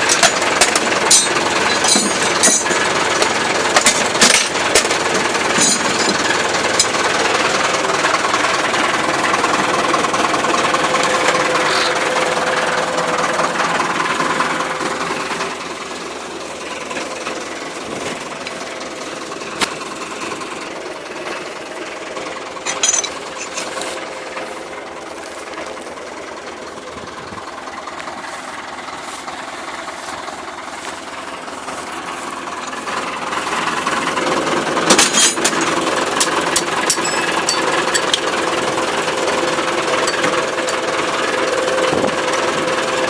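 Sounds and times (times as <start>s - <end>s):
tractor engine clattering: 0.0s - 43.0s.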